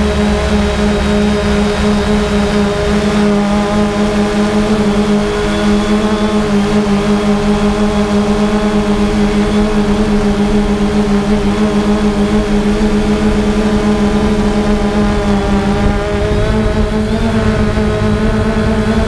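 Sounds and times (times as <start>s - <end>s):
drone motors humming: 0.0s - 19.0s.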